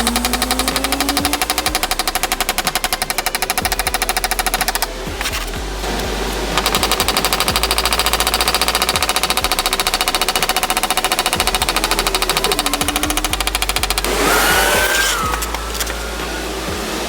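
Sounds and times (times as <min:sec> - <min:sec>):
rapid mechanical clicking: 0:00.0 - 0:16.8.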